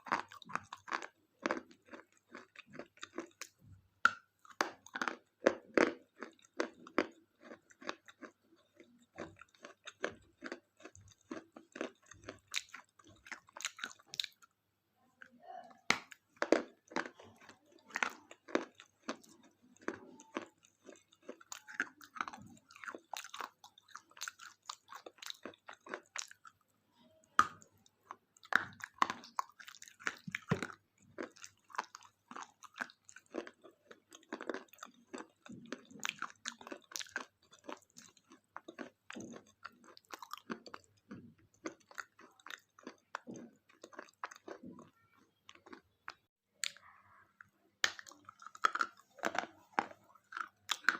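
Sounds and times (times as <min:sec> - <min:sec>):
person chewing crunchy wafer: 0:00.0 - 0:14.6, 0:15.8 - 0:26.7, 0:27.3 - 0:50.9.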